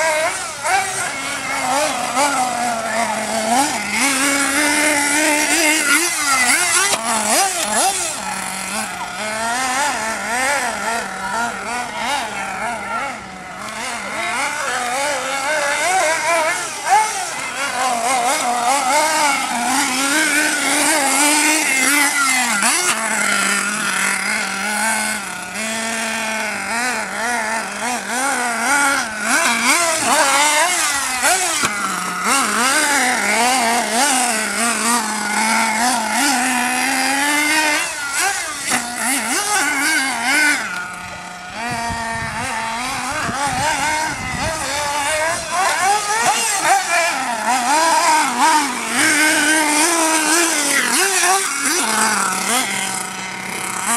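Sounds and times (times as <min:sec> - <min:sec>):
small engine revving with high buzz: 0:00.0 - 0:53.9.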